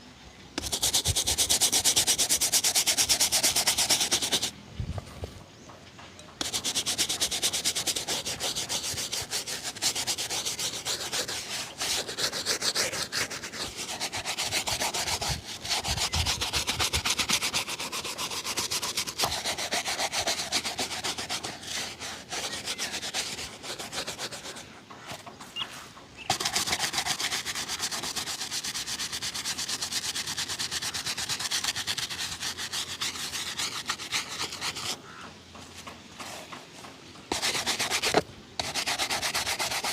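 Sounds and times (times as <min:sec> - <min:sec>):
leather shoe being rubbed: 0:00.6 - 0:05.4, 0:06.4 - 0:36.6, 0:37.3 - 0:39.9.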